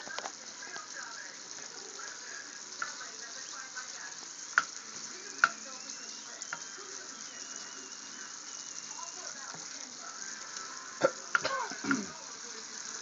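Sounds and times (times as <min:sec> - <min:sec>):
apples sizzling in a frying pan: 0:00.0 - 0:13.0.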